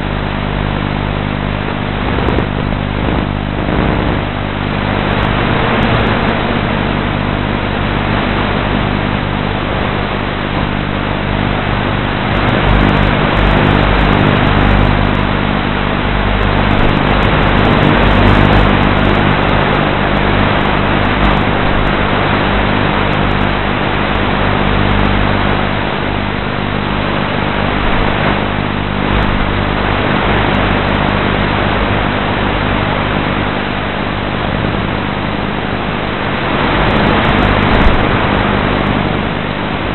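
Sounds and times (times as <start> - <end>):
electric motor and propellers humming: 0.0 - 39.9
rushing wind-like noise: 0.0 - 39.9.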